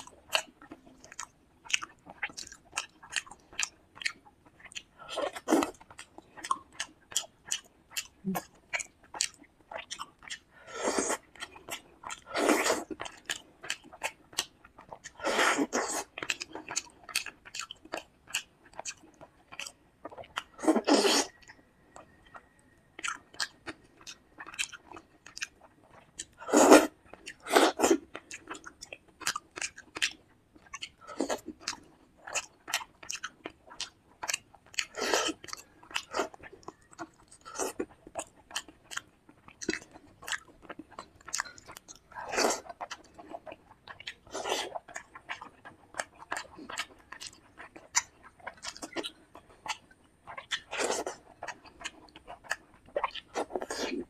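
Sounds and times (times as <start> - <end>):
wet chewing clicks: 0.0 - 54.0.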